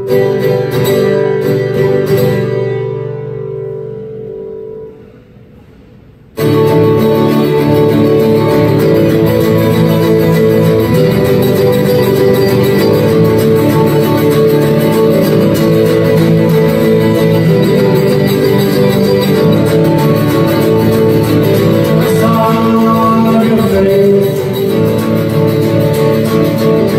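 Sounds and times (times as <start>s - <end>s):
acoustic guitar strumming: 0.0s - 26.9s.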